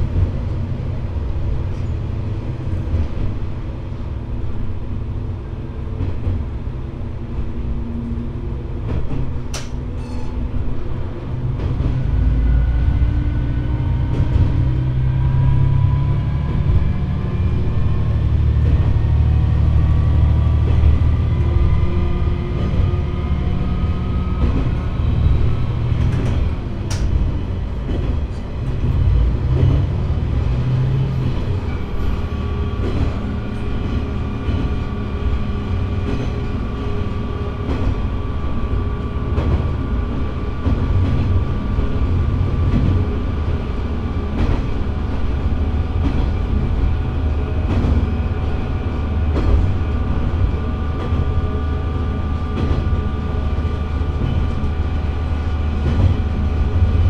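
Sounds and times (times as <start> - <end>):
diesel railcar engine drone: 0.0 - 57.0.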